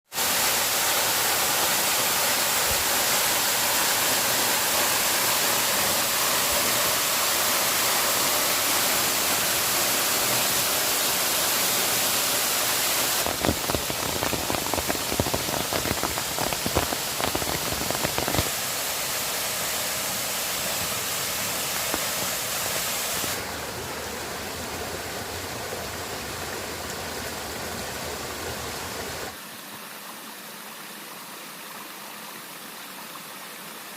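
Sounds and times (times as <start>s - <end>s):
rushing water hiss: 0.1s - 33.9s.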